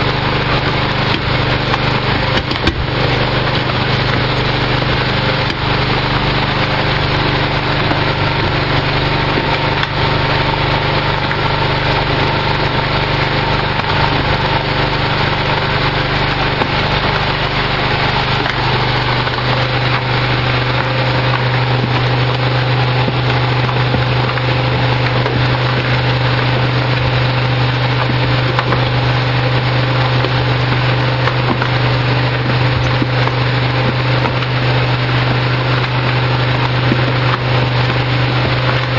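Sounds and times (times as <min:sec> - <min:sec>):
gritty churning of mixer: 0:00.0 - 0:38.9
low motor hum: 0:00.0 - 0:38.9.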